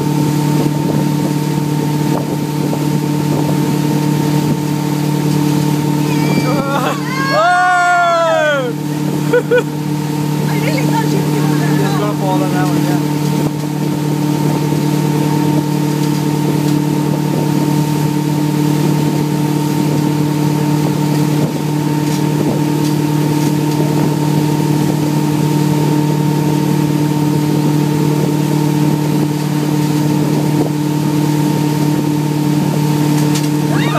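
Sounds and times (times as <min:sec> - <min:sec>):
wind and water hiss: 0:00.0 - 0:06.6, 0:08.4 - 0:33.8
motorboat engine running: 0:00.0 - 0:33.9.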